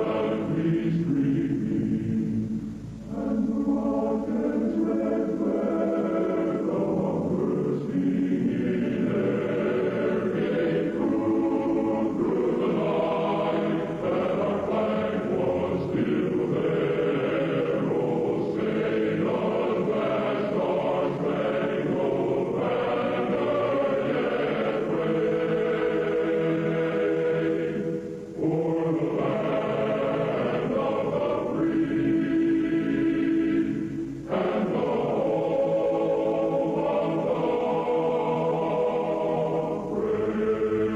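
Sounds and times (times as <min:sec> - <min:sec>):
choir singing slow anthem: 0:00.0 - 0:40.9.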